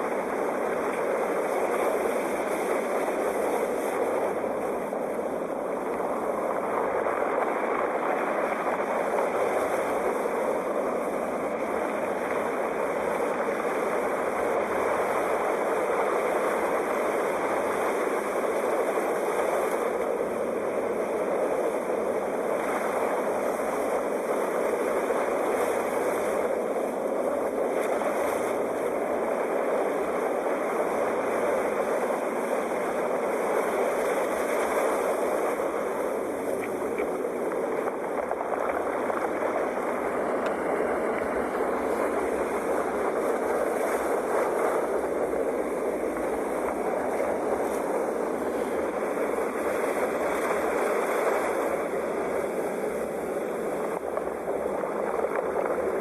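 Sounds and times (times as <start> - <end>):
sea waves roaring: 0.0 - 56.0.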